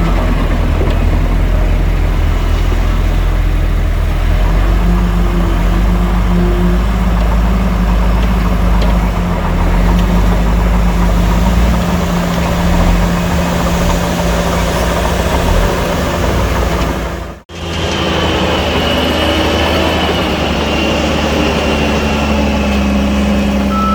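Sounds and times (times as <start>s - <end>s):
heavy diesel engine rumbling: 0.0s - 23.9s.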